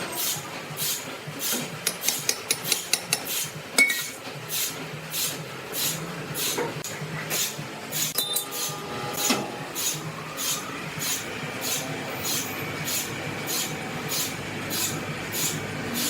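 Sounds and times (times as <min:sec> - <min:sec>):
sawmill machinery clattering: 0:00.0 - 0:16.0.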